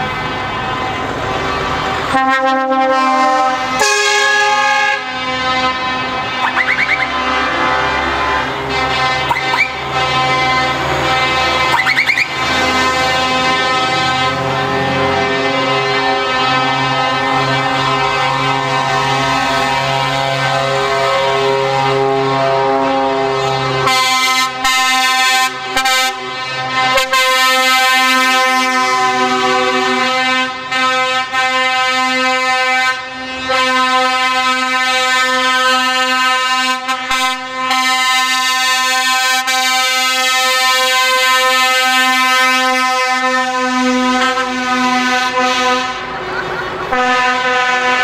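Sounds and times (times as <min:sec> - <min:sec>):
truck air horns: 0:00.0 - 0:48.0.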